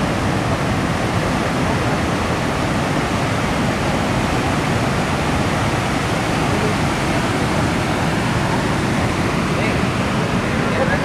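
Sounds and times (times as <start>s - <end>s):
water rushing over a weir: 0.0s - 11.0s.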